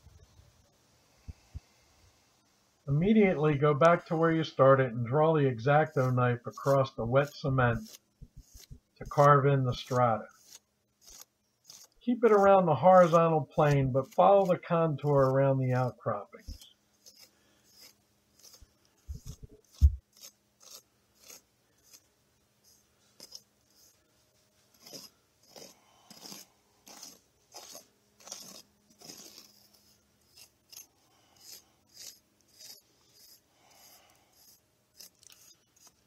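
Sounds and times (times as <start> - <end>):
knife blade scraping wet sand: 3.8 - 22.0, 23.2 - 24.0, 24.8 - 36.0.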